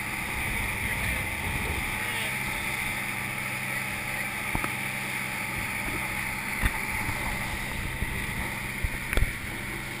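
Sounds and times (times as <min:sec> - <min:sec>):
boat engine droning: 0:00.0 - 0:10.0
wind and water rushing: 0:00.0 - 0:10.0.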